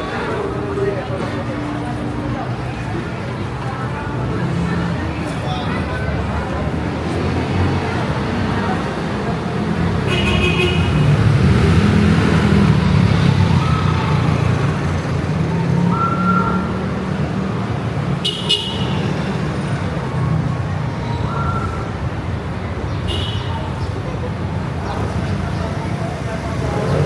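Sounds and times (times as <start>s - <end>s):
vehicle engines running: 0.0s - 27.0s.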